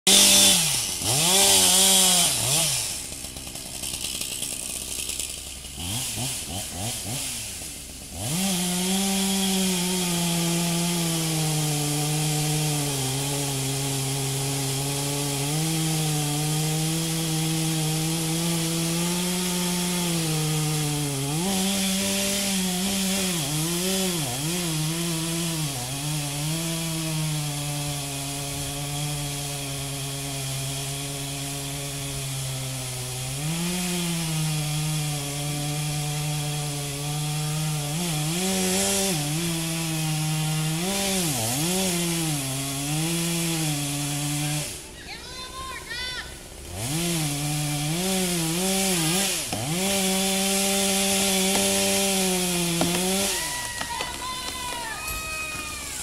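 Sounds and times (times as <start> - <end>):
chainsaw cutting tree trunk: 0.0 - 56.0.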